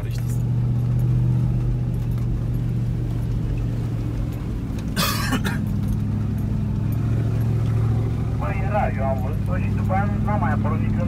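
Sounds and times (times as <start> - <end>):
engine droning inside car cabin: 0.0 - 11.0.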